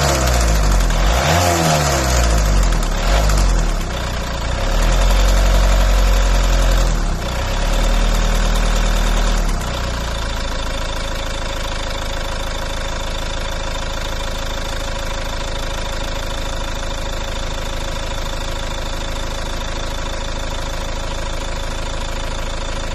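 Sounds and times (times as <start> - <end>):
car engine revving and idling: 0.0 - 22.9.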